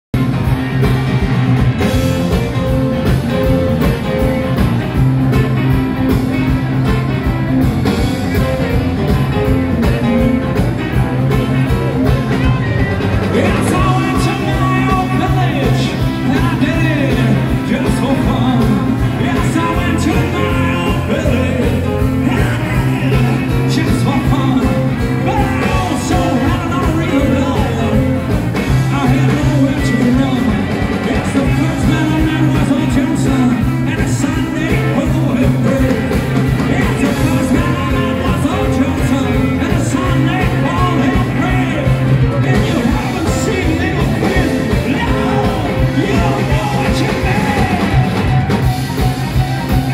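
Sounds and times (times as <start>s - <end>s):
blues-rock band playing: 0.1s - 49.9s
person singing: 7.9s - 48.6s.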